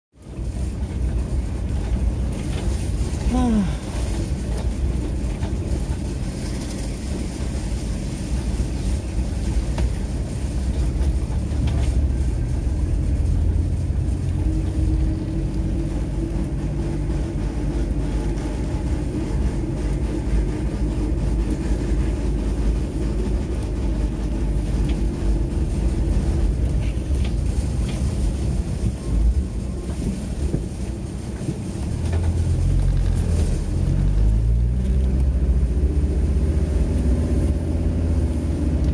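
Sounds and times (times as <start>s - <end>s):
van engine and road rumble: 0.1s - 38.9s.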